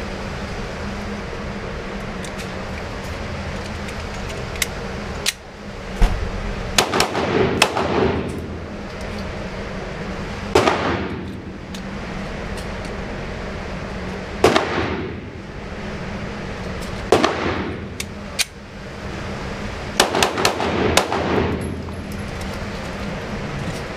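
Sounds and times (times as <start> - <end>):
ventilation hum: 0.0 - 23.9.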